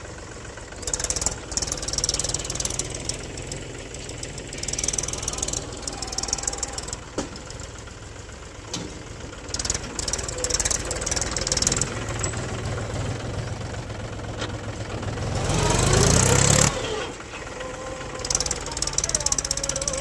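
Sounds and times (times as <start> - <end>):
tractor diesel engine chugging: 0.0 - 20.0.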